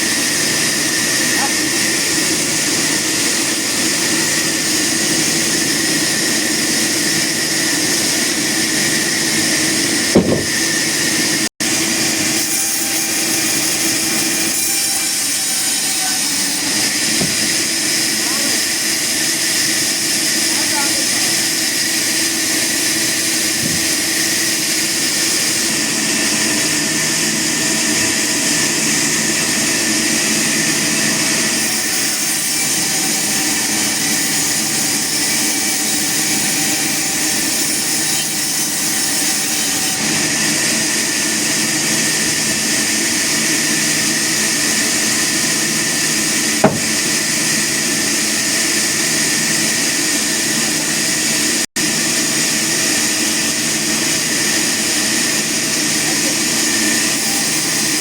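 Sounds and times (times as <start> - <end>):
sawmill machinery whine: 0.0 - 58.0.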